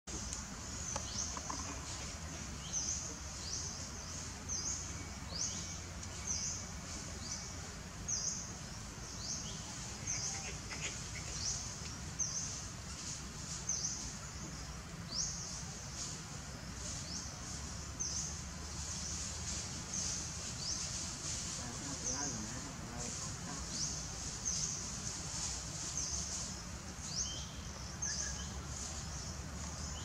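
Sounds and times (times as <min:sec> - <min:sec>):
low background noise: 0:00.1 - 0:30.0.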